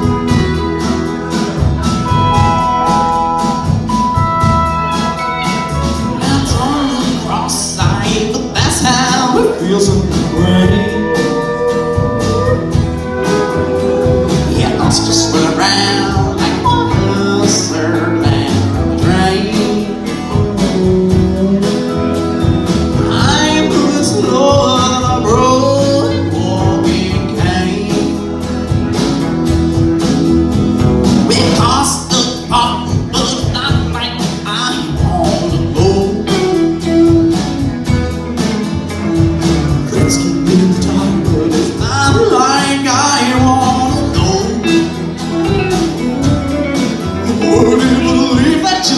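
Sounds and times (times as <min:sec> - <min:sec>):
acoustic guitar: 0:00.0 - 0:48.9
electric guitar: 0:00.0 - 0:48.9
steel guitar: 0:00.0 - 0:48.9
upright bass: 0:00.0 - 0:48.9.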